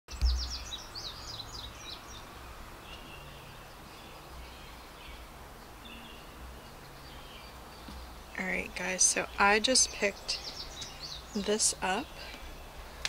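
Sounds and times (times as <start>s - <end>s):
background noise: 0.1s - 13.0s
bird singing: 0.1s - 13.0s.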